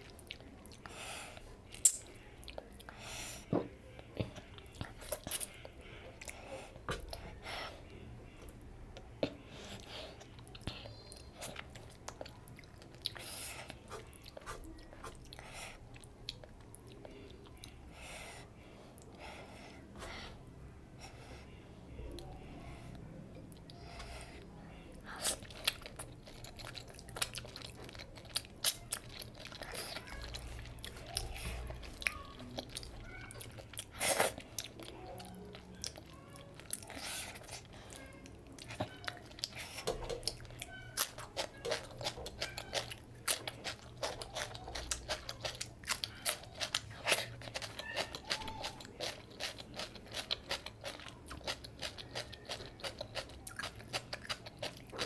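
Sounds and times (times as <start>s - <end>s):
person chewing and lip smacking: 0.0s - 3.0s, 4.0s - 7.3s, 8.4s - 17.8s, 23.4s - 24.1s, 25.0s - 55.0s.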